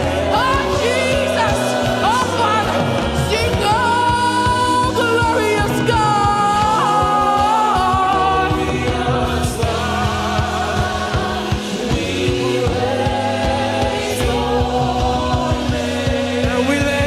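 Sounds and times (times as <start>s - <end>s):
band with bass and drums: 0.0s - 17.0s
choir singing: 0.0s - 17.0s.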